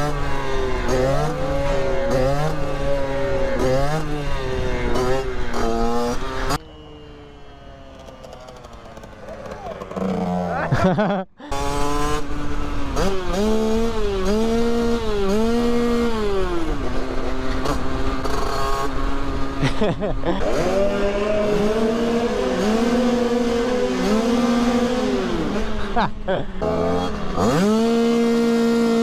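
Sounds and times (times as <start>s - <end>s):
two-stroke moped engine revving: 0.0s - 29.0s.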